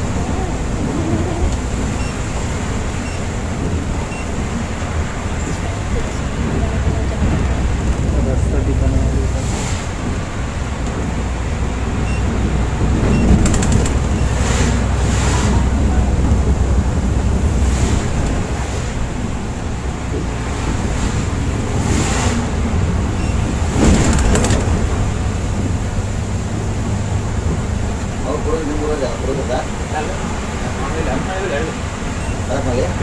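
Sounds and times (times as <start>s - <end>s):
coach engine and road drone: 0.0s - 33.0s.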